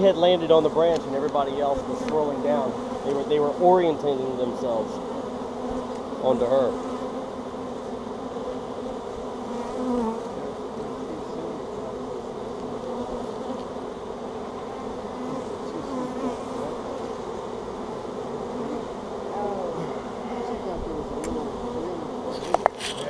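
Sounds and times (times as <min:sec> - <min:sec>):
bee swarm buzzing: 0:00.0 - 0:23.0
single bees flying past: 0:00.0 - 0:23.0.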